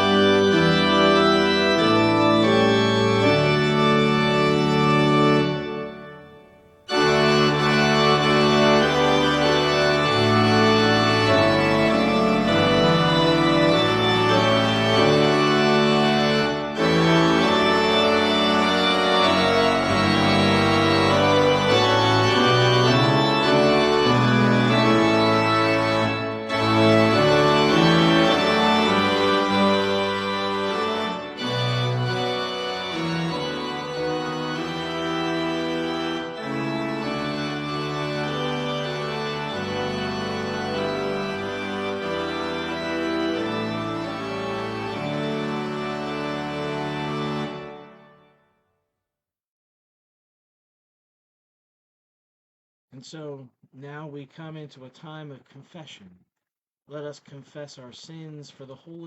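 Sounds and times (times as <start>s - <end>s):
organ playing sustained chords: 0.0s - 48.4s.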